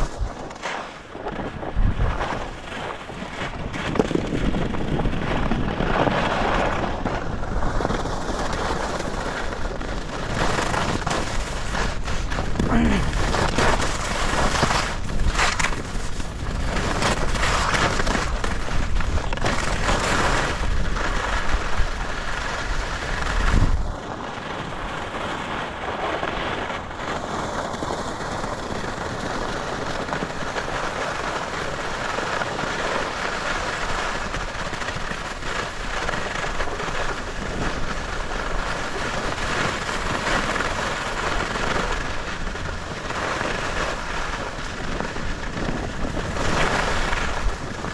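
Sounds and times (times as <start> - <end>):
wind buffeting microphone: 0.0 - 32.0, 33.3 - 47.9
skis scraping over snow: 0.0 - 47.9.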